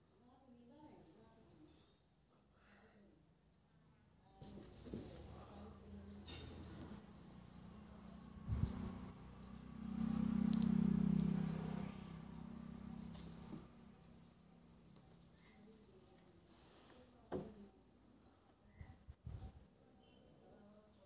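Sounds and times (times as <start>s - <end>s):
bird chirping: 3.5s - 21.0s.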